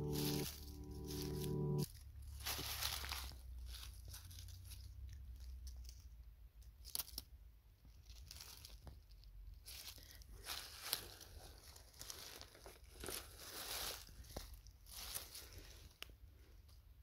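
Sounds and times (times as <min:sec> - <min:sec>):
dry leaves rustling and crackling: 0:00.0 - 0:06.1, 0:06.8 - 0:16.0.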